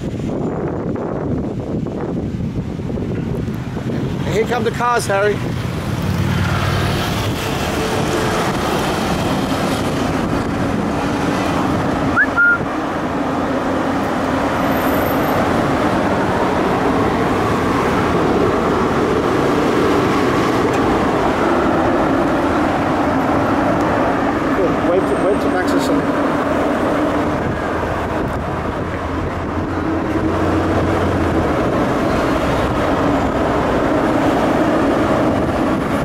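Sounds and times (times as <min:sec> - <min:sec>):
cars driving over metal bridge: 0:00.0 - 0:36.0.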